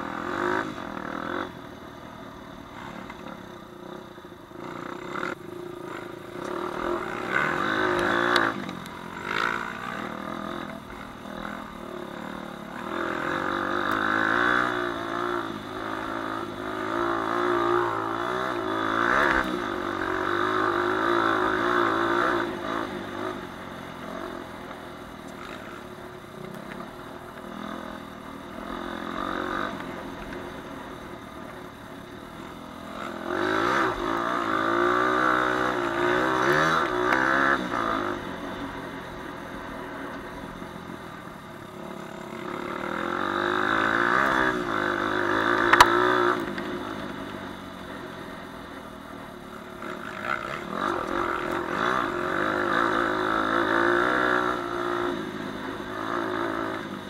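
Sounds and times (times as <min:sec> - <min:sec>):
dirt bike engine revving: 0:00.0 - 0:01.6, 0:04.6 - 0:57.0.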